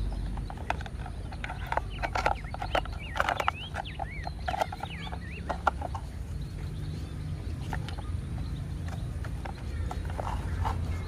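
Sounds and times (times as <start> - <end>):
plastic toy clicks and knocks: 0.0 - 6.7, 7.6 - 11.0
birds chirping: 0.0 - 11.0.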